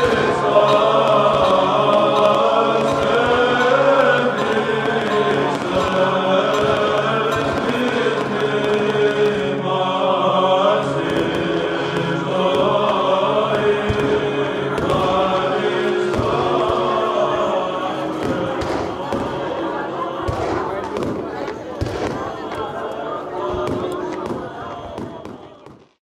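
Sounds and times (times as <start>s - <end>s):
voices chanting a slow hymn: 0.0s - 26.0s.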